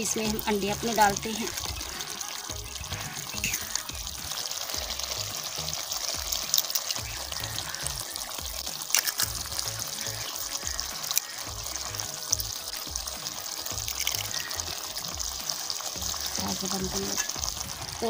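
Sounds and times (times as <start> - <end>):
curry sizzling in a pot: 0.0 - 18.0
eggs cracking: 0.0 - 18.0
soft background music: 0.0 - 18.0.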